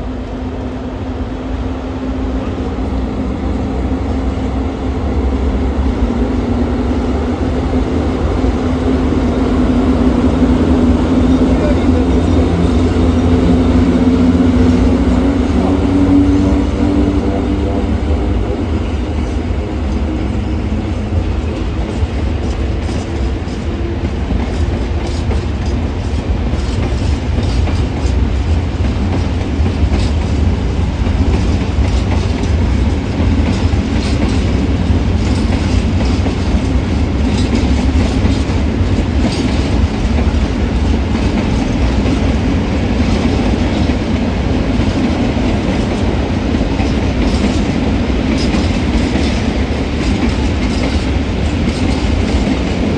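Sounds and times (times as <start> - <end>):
freight train rumbling: 0.0 - 52.9.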